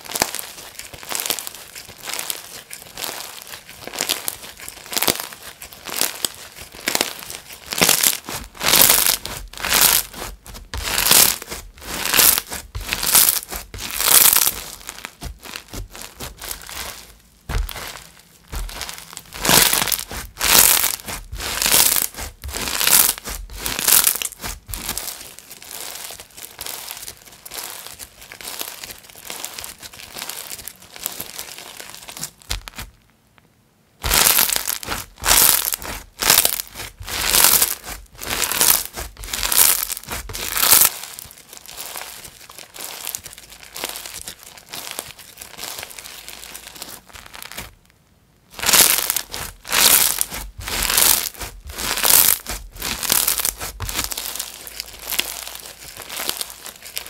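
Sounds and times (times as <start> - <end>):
slime crackling and crunching: 0.0 - 33.0, 34.0 - 47.9, 48.5 - 57.0.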